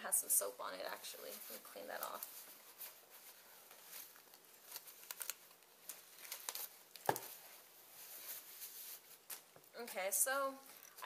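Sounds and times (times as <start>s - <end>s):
paper and cardboard rustling: 0.8s - 10.1s.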